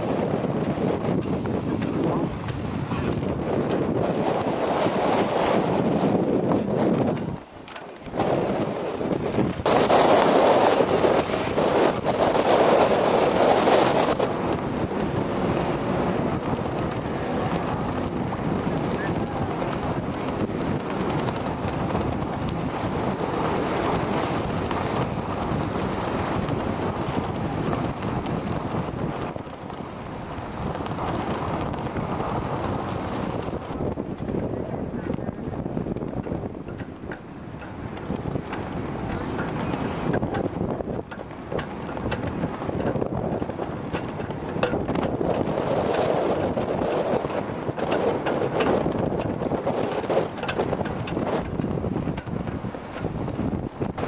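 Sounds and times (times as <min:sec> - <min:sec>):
rushing water: 0:00.0 - 0:54.0
wind buffeting microphone: 0:00.0 - 0:54.0.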